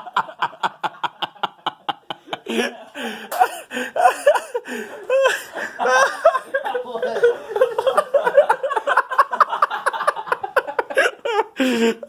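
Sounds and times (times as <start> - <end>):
excited laughter: 0.0 - 12.0.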